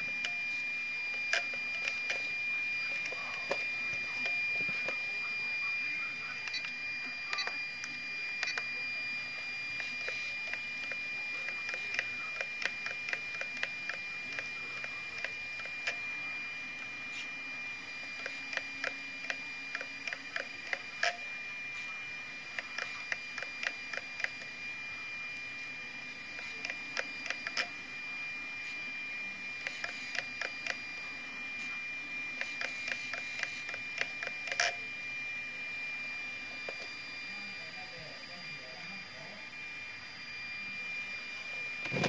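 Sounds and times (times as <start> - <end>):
servo high-pitched whine: 0.0 - 42.0.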